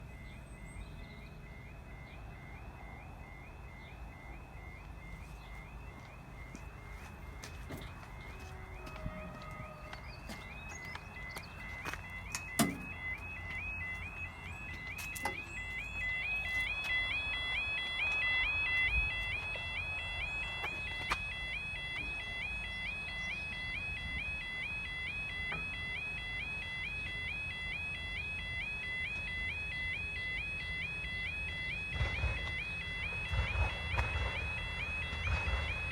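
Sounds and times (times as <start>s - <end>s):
level crossing alarm two-tone warble: 0.0s - 35.9s.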